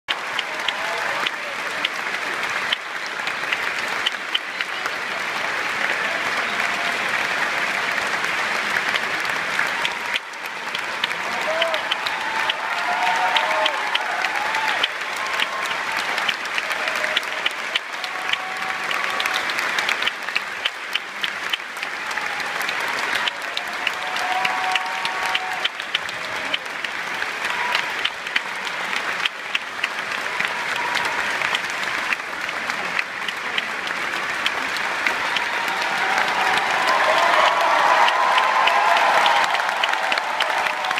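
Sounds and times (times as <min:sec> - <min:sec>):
audience applauding: 0:00.1 - 0:40.9.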